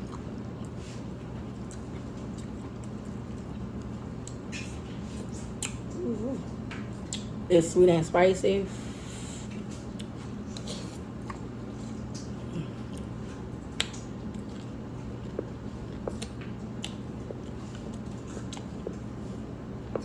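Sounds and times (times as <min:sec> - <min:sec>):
person chewing: 0:00.0 - 0:07.3, 0:09.1 - 0:20.0
steady low hum: 0:00.0 - 0:20.0.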